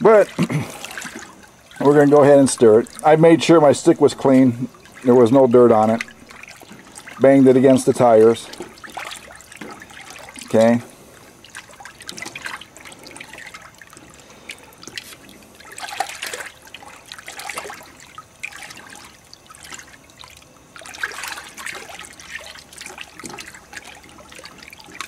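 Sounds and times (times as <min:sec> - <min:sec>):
liquid sloshing in plastic bucket: 0:00.0 - 0:25.0.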